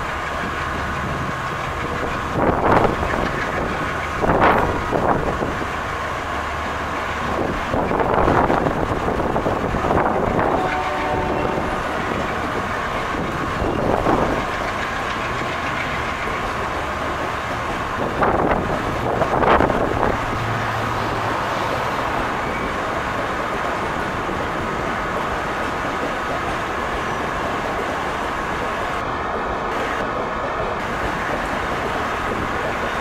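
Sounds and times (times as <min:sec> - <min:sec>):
wheel clatter over rail joints: 0:00.0 - 0:29.4
wheels rumbling on rail: 0:00.0 - 0:33.0.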